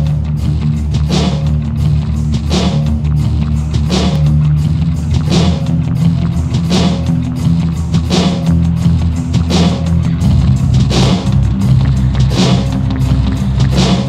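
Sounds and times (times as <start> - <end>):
instrumental guitar and drum music: 0.0 - 14.0.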